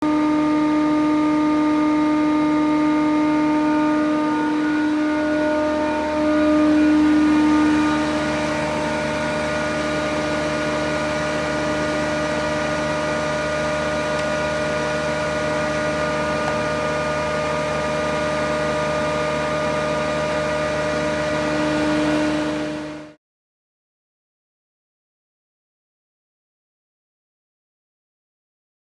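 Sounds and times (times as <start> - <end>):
planer running with hum and whine: 0.0 - 23.2.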